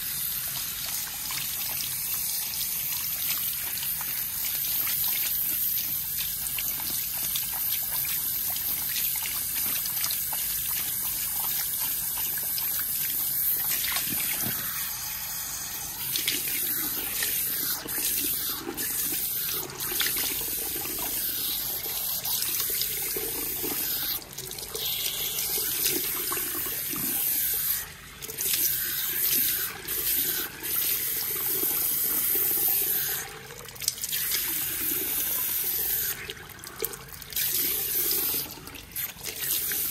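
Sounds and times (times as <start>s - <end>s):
shower head spraying water: 0.0s - 33.2s.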